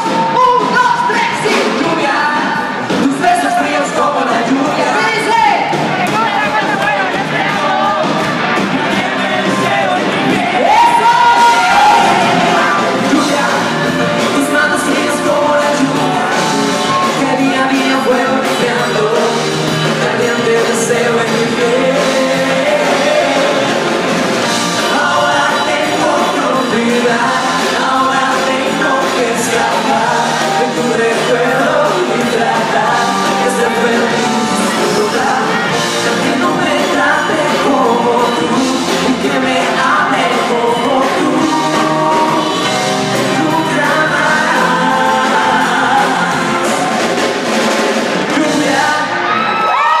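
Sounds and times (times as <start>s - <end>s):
live band music: 0.0s - 50.0s
men singing into microphones: 0.0s - 50.0s.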